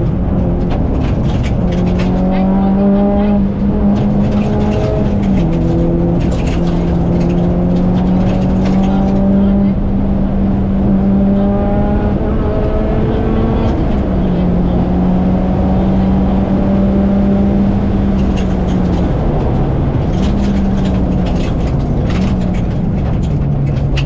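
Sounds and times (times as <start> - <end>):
car engine pulling hard: 0.0 - 24.0
tyre and road noise: 0.0 - 24.0.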